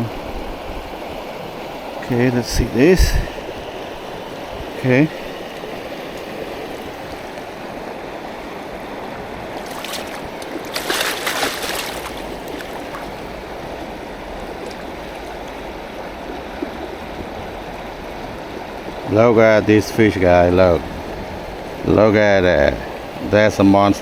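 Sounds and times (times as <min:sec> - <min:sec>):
river water flowing over rocks: 0:00.0 - 0:24.0.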